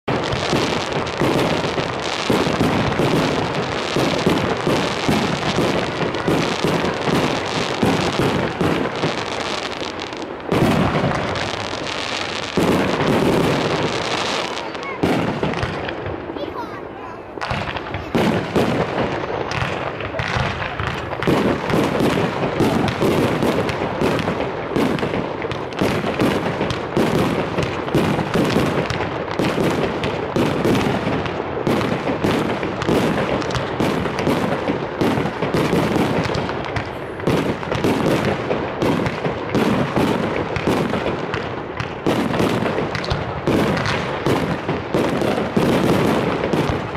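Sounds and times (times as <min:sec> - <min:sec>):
fireworks launching and bursting: 0:00.0 - 0:46.9.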